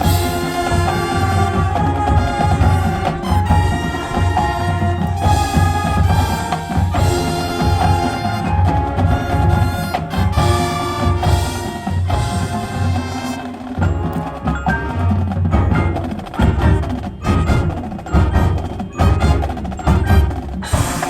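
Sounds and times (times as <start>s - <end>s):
wind instrument chords: 0.0s - 15.4s, 16.6s - 21.0s
drums: 0.0s - 21.0s
marimba and bells: 0.0s - 21.0s.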